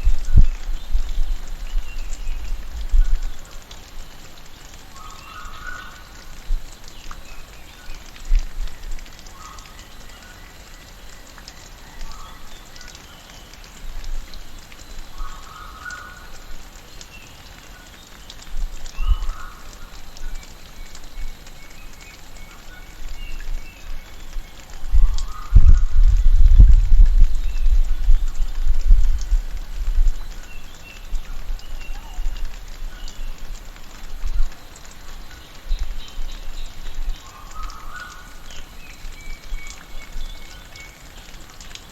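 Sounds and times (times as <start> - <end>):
rain pattering through foliage: 0.0 - 41.9.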